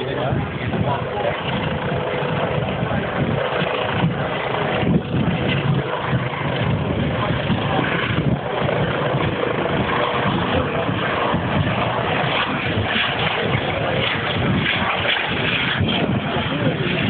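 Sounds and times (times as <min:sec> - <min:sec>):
powerboat engines droning: 0:00.0 - 0:17.0.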